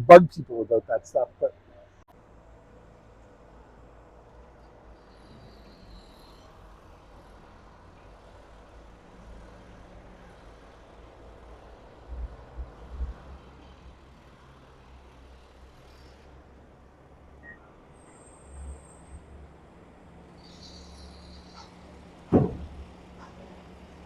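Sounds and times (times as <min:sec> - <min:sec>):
low rumble of traffic: 0:00.0 - 0:24.0.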